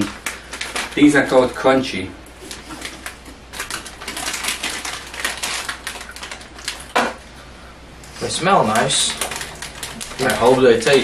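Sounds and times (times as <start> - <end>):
plastic wrappers crinkling: 0.0 - 7.2, 8.2 - 11.0.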